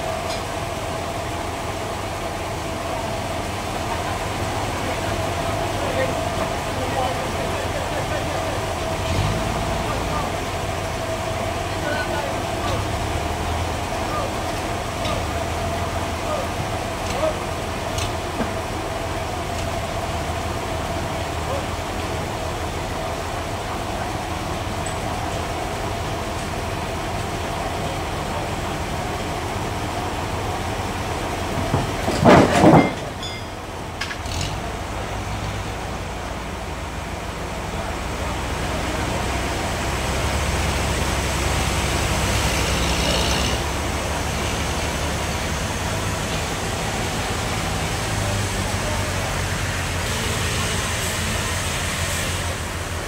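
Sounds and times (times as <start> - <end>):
forklift engine running: 0.0 - 53.0.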